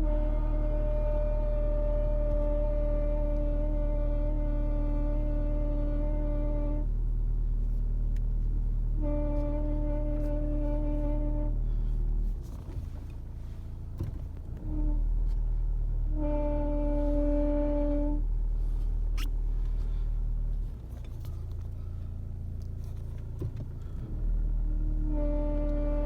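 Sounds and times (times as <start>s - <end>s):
car droning hum: 0.0s - 26.0s.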